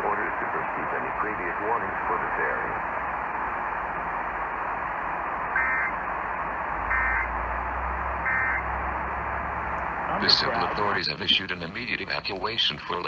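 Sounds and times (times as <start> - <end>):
radio static hiss: 0.0 - 7.6, 9.9 - 13.0.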